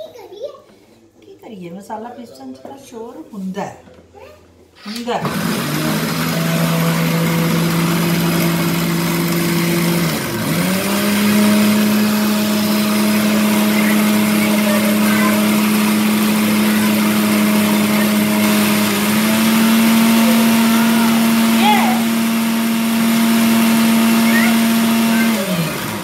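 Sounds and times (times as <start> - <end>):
mixer grinder grinding spices: 5.0 - 26.0.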